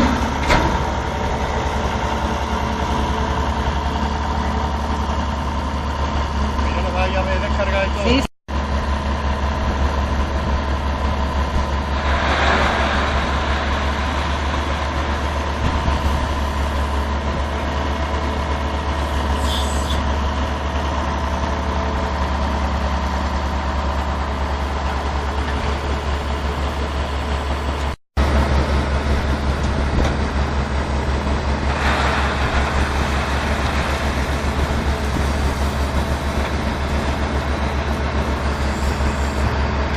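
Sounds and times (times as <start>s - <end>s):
heavy machine engine rumbling: 0.0s - 39.9s.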